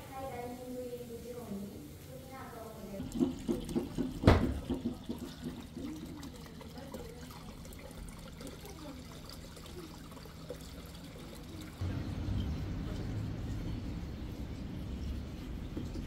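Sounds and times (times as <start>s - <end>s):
water running and sloshing: 0.2s - 16.0s.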